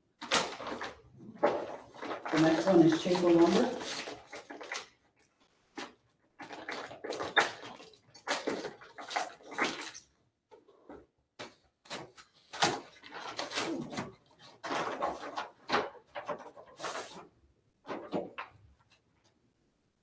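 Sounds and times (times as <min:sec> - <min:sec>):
paper rustling and crinkling: 0:00.2 - 0:18.5.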